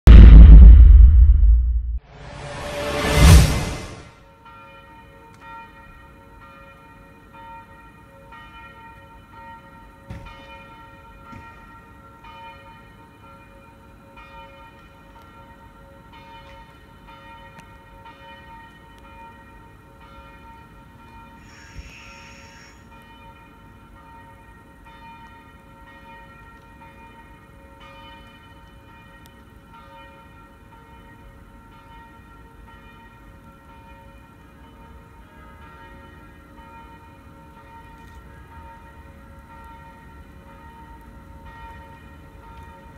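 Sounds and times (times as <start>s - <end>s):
church bells ringing: 4.2s - 21.4s, 22.8s - 42.9s.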